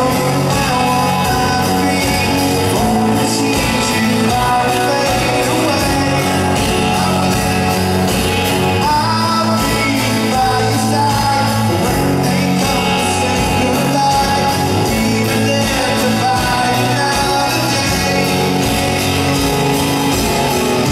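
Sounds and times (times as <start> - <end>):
acoustic guitar: 0.0 - 20.9
drums: 0.0 - 20.9
electric guitars: 0.0 - 20.9
live rock band playing: 0.0 - 20.9
man singing lead vocal: 0.0 - 20.9.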